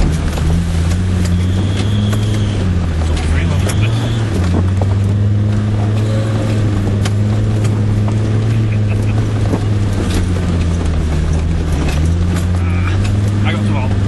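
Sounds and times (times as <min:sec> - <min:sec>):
sharp clicks and knocks: 0:00.0 - 0:13.5
car engine droning: 0:00.0 - 0:14.0.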